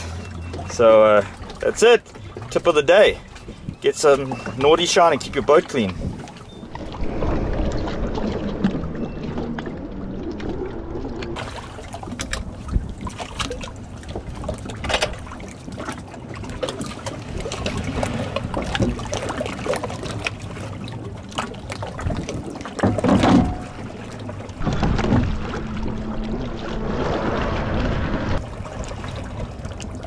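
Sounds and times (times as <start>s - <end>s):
water lapping and sloshing: 0.0s - 30.0s
water splashes: 0.0s - 30.0s
wind: 0.0s - 30.0s.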